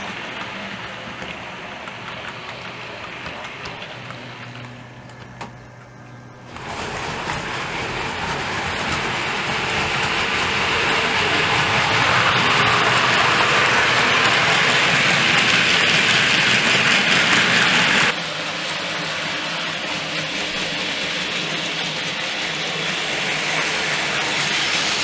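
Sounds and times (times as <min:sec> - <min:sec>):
model train rattling on track: 0:00.0 - 0:25.0.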